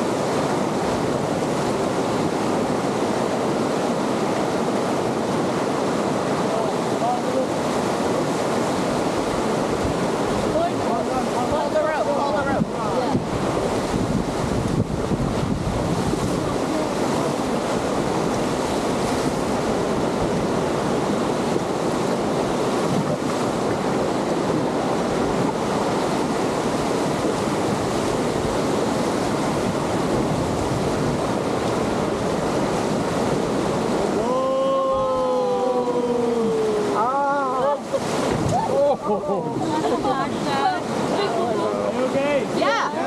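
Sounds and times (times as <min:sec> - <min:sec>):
river rapids rushing: 0:00.0 - 0:43.0.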